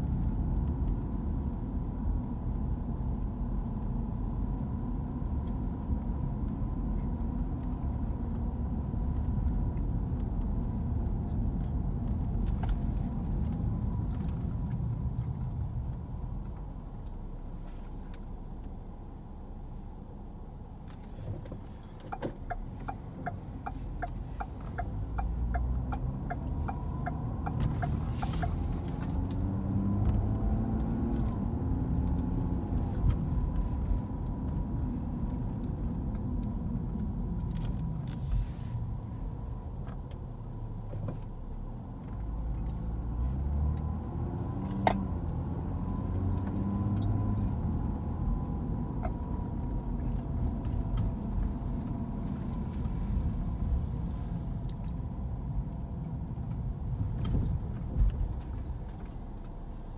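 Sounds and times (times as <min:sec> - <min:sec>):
turn signal ticking: 0:00.0 - 0:17.3, 0:21.0 - 0:59.9
car engine and road rumble: 0:00.0 - 0:59.9.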